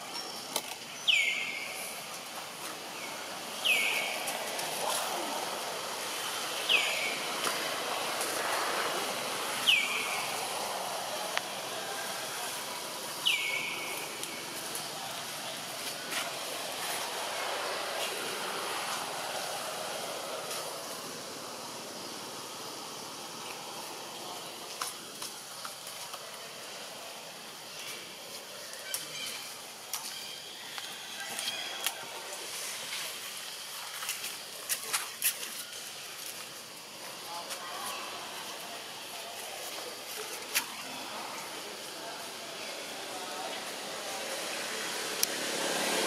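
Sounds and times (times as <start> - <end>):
steady background hiss: 0.0 - 46.0.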